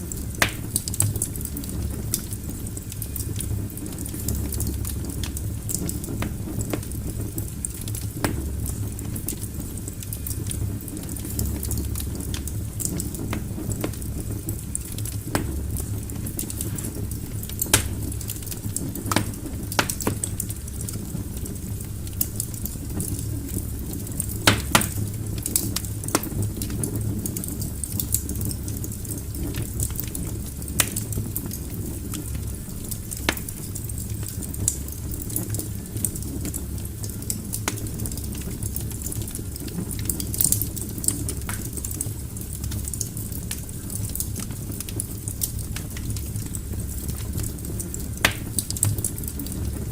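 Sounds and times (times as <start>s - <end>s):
logs crackling and popping: 0.0s - 49.9s
low rumble of flames: 0.0s - 49.9s.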